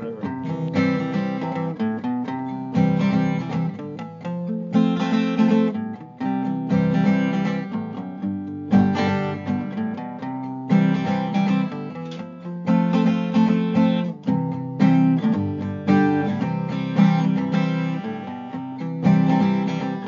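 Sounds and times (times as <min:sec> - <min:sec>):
strummed acoustic guitar: 0:00.0 - 0:20.0.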